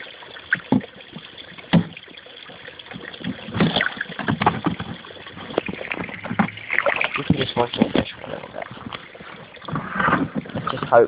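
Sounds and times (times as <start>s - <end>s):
fish splashing at water surface: 0.0s - 11.0s.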